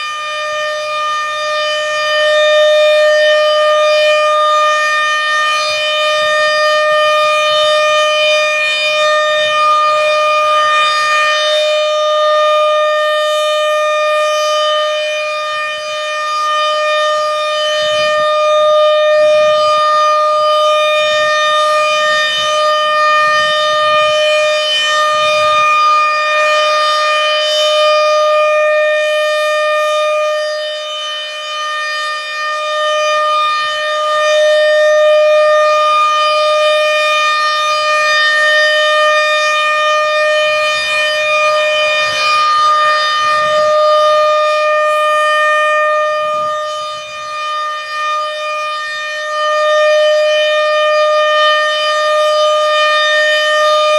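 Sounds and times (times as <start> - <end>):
rotating siren steady tone: 0.0 - 53.9.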